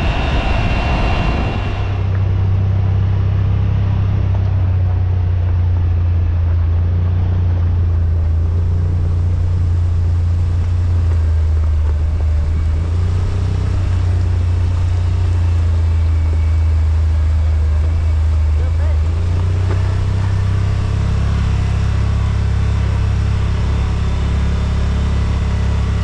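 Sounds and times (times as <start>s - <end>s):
road and wind noise: 0.0s - 26.0s
vehicle engine droning: 0.0s - 26.0s.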